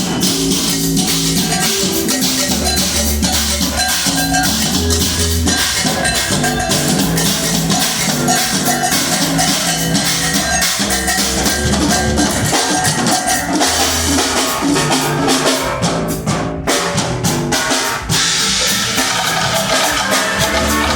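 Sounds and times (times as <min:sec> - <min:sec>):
bass drum and snare hits: 0:00.0 - 0:20.9
live band playing: 0:00.0 - 0:20.9.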